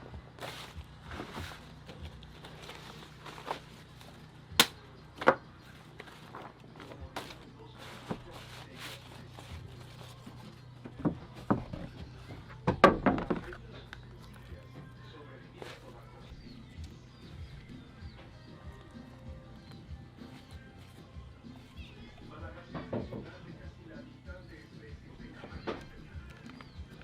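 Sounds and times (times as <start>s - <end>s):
faint voices: 0.0s - 27.0s.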